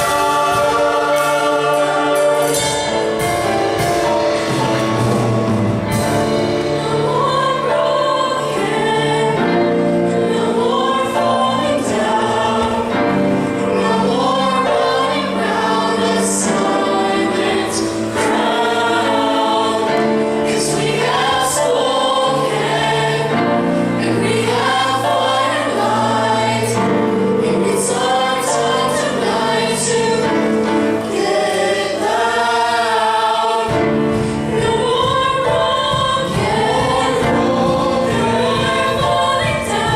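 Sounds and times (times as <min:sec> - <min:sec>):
instrumental accompaniment: 0:00.0 - 0:39.9
young voices singing in harmony: 0:00.0 - 0:39.9.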